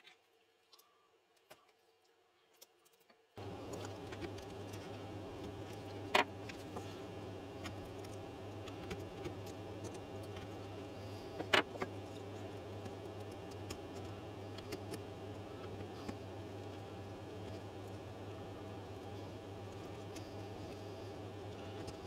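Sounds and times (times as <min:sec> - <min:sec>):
low hum: 0:03.4 - 0:22.0.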